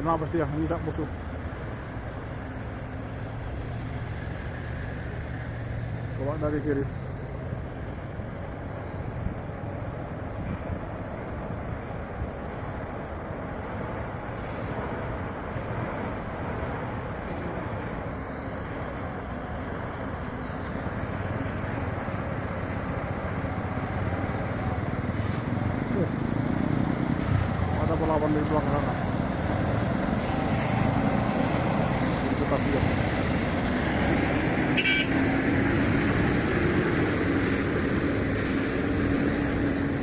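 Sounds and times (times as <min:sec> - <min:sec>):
wind buffeting microphone: 0:07.7 - 0:40.0.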